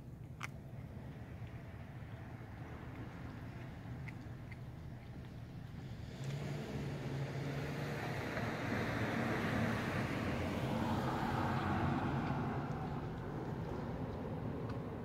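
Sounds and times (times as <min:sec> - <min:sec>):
vehicle passing on road: 0:00.2 - 0:15.0.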